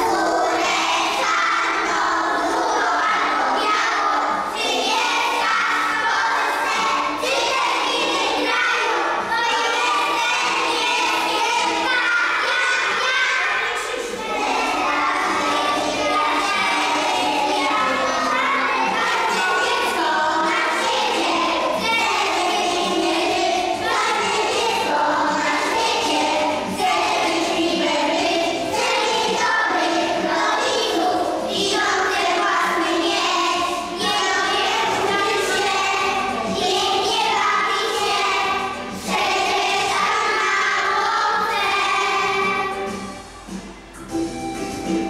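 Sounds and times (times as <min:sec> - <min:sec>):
young children singing: 0:00.0 - 0:43.9.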